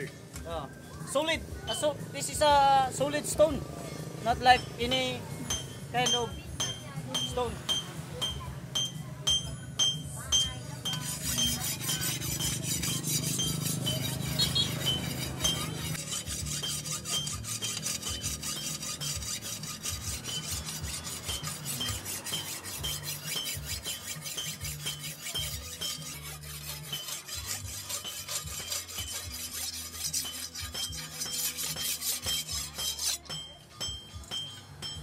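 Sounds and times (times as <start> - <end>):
machete blade rasping on sharpening stone: 4.3 - 35.0.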